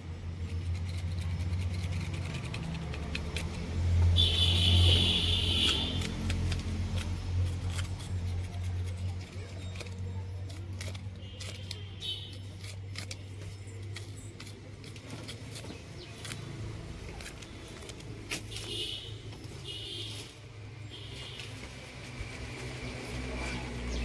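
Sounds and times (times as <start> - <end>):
clicks and scraping of cleaning: 0.4 - 24.0.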